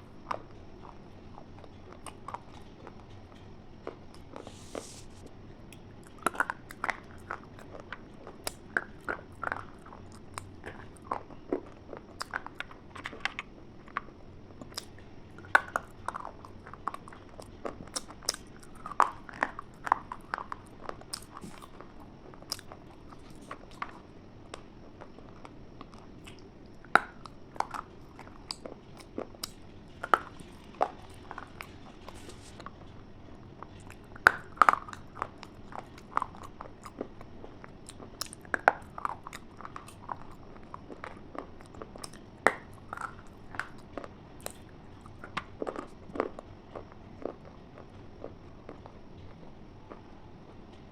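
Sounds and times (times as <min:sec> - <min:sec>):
chewing crunchy food: 0:00.0 - 0:50.9.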